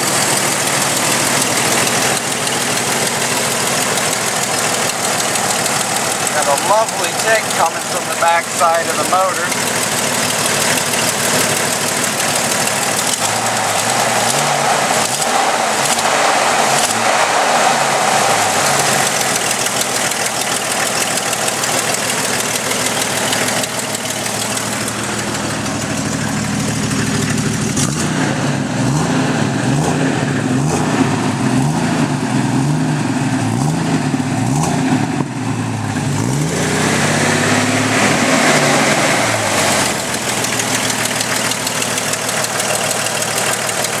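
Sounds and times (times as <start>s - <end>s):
car engine running: 0.0s - 44.0s
engine ticking: 0.0s - 44.0s.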